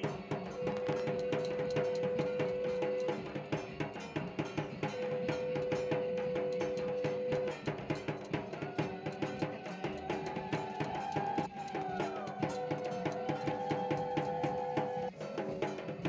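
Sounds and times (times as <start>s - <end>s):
music with steady drum beat: 0.0s - 16.0s.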